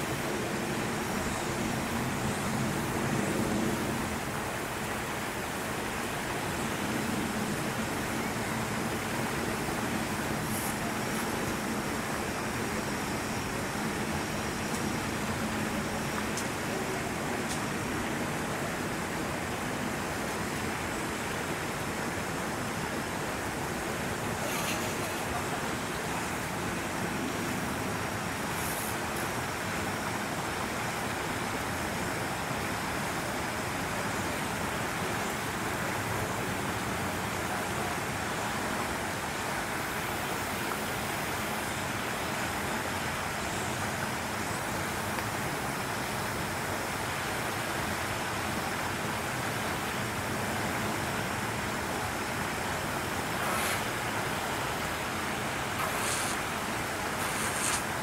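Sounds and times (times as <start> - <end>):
steady rushing outdoor noise: 0.0 - 58.0.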